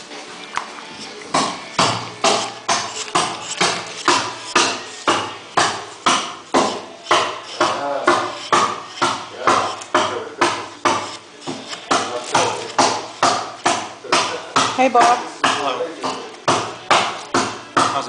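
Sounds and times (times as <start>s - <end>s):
gouge knocking into wood: 1.2s - 18.0s.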